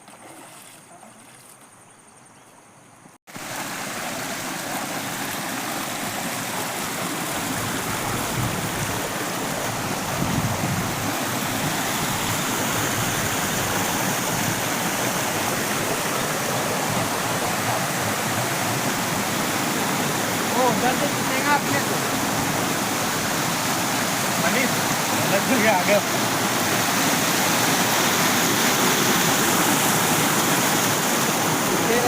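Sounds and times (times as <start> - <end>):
waterfall rushing: 3.3 - 32.0.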